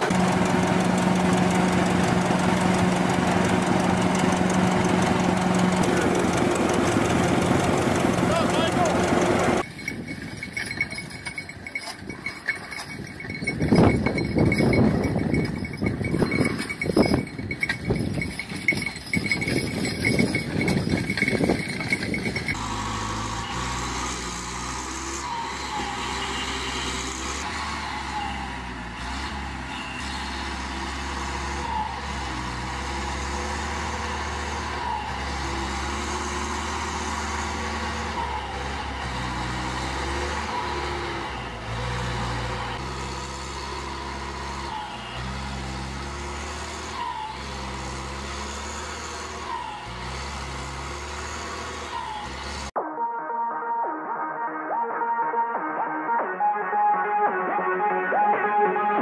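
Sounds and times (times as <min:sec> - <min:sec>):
diesel engine under load: 0:00.0 - 0:52.8.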